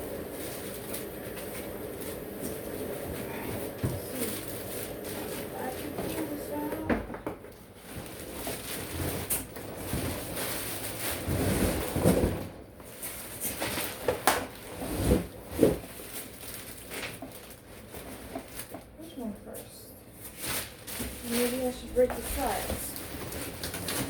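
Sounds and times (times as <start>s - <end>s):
cardboard and plastic rustling: 0.0s - 24.0s.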